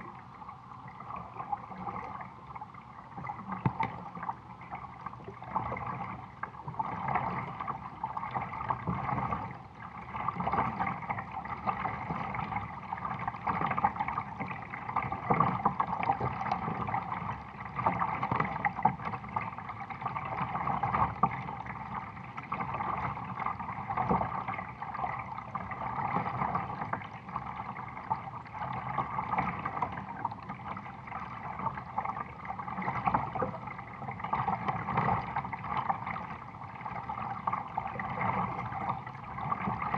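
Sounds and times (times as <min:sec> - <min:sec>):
water gurgling along hull: 0:00.0 - 0:39.9.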